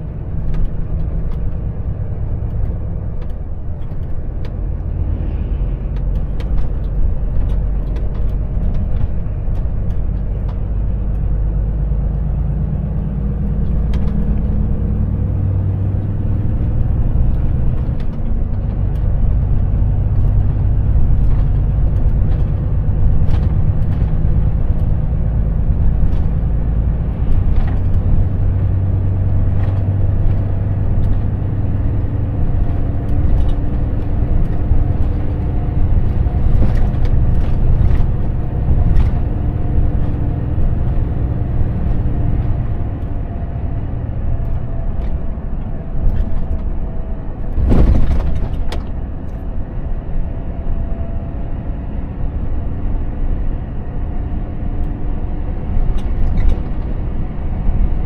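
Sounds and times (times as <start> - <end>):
truck diesel engine rumbling: 0.0 - 58.0.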